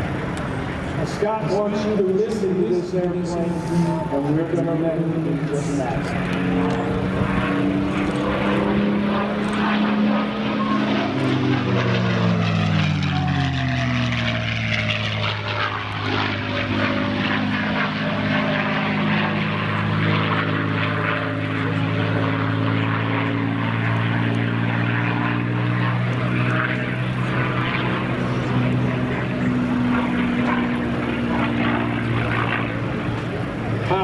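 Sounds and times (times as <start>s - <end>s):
propeller plane engine drone: 0.0s - 34.0s.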